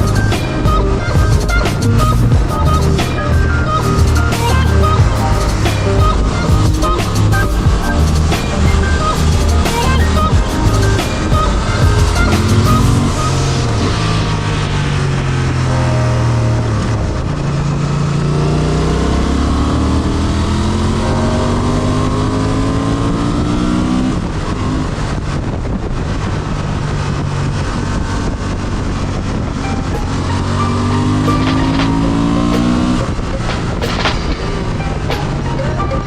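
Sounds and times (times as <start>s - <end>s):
motorcycle engine accelerating: 0.0s - 35.6s
wind and road noise: 0.0s - 36.0s.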